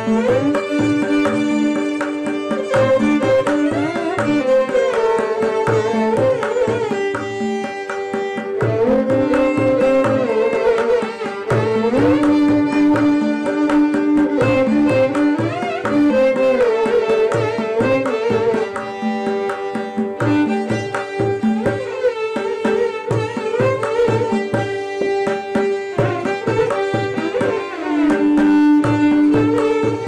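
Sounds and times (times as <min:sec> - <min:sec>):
mridangam drum strokes: 0:00.0 - 0:30.0
violins playing a melody: 0:00.0 - 0:30.0.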